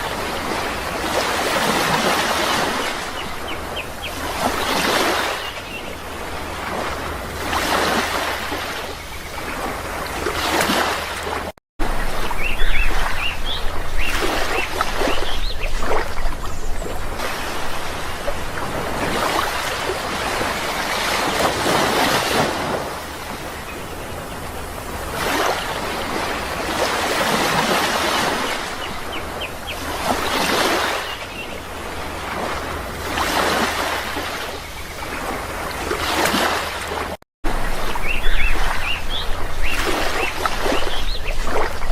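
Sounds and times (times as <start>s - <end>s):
sea waves washing ashore: 0.0s - 41.9s.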